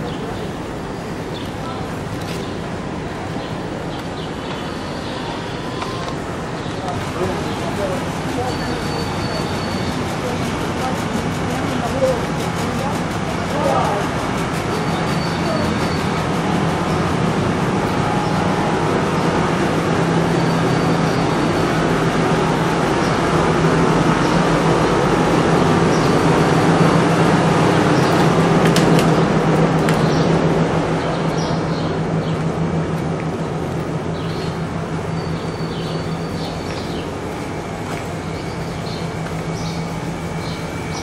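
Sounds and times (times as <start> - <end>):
low city rumble and hum: 0.0 - 41.0.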